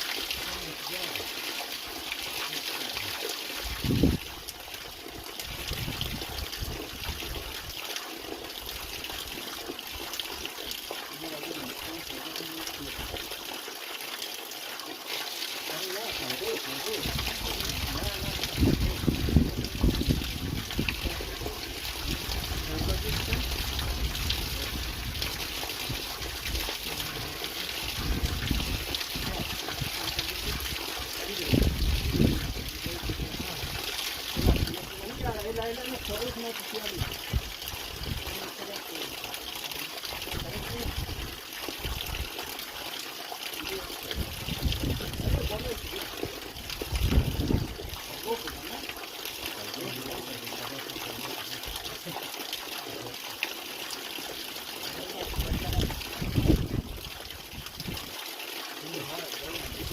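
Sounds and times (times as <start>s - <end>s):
waterfall running and trickling: 0.0s - 59.9s.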